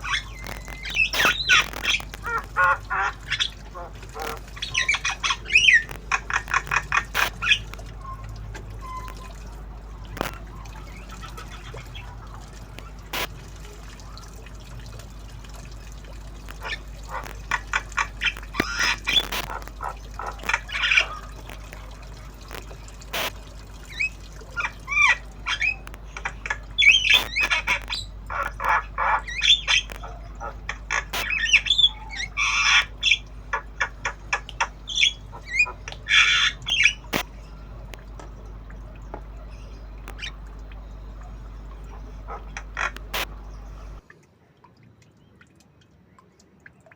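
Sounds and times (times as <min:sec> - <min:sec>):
myna squawks and chirps: 0:00.0 - 0:44.0.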